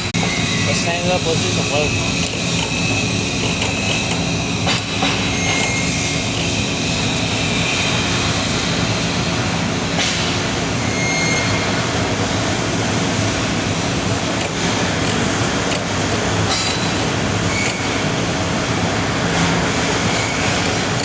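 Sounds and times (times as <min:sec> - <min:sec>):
machinery drone with low hum: 0:00.0 - 0:21.0.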